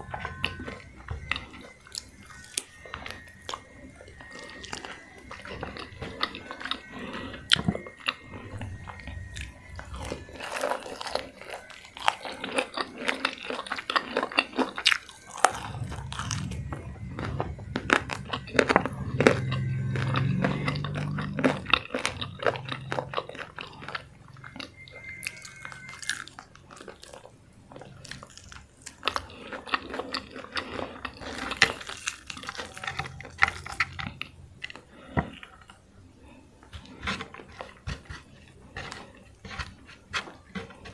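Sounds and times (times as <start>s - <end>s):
low steady hum: 0.0s - 40.9s
wet chewing: 0.0s - 40.9s.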